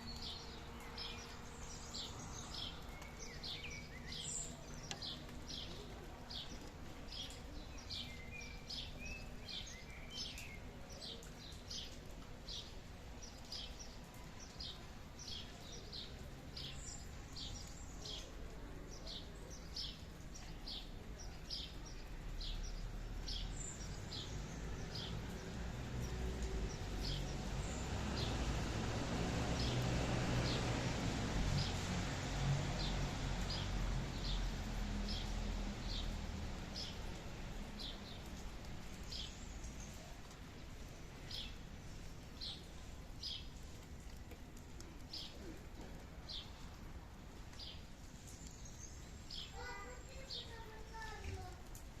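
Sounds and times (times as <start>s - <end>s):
rain and wind: 0.0s - 52.0s.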